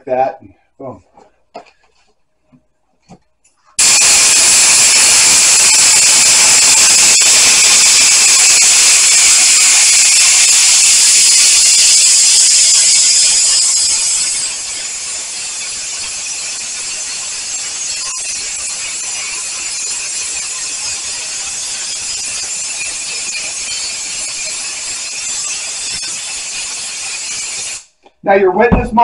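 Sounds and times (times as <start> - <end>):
spray gun hissing: 3.8 - 27.9.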